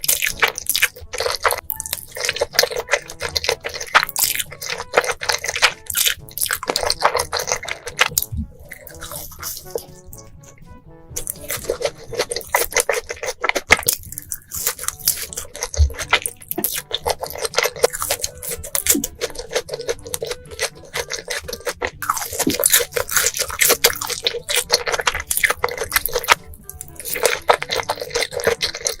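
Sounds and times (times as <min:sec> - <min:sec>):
noodles slurped and chewed: 0:00.0 - 0:29.0.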